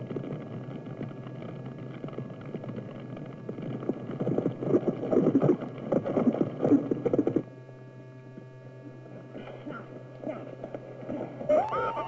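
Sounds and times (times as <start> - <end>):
horses galloping: 0.0 - 7.5, 9.2 - 12.0
steady low hum: 0.0 - 12.0.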